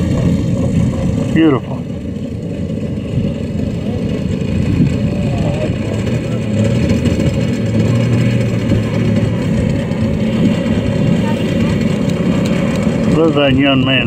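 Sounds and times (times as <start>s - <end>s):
model plane engine running: 0.0s - 14.0s.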